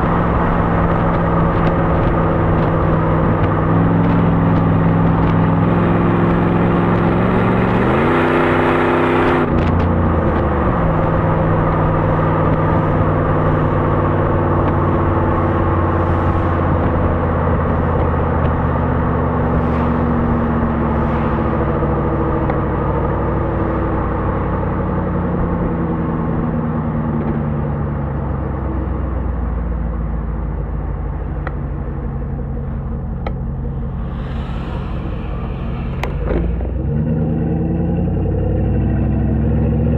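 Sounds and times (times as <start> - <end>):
car engine revving while driving: 0.0 - 27.4, 31.4 - 39.9.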